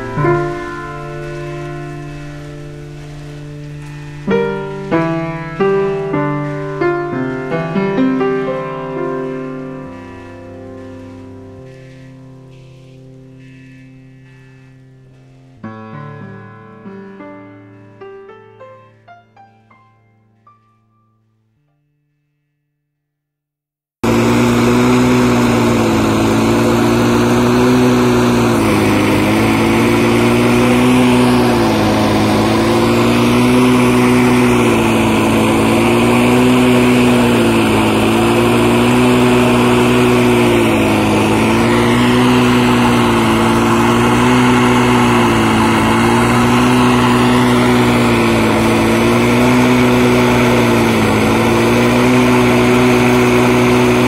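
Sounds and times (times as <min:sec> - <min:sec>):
small engine running: 0:00.0 - 0:15.6, 0:24.0 - 0:54.0.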